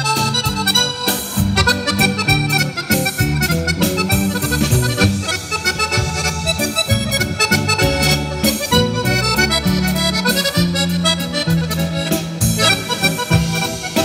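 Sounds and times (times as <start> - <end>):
accordion waltz melody: 0.0 - 14.0
bass line: 0.0 - 14.0
drum kit: 0.0 - 14.0
keyboard: 0.0 - 14.0
electric guitar: 0.1 - 14.0.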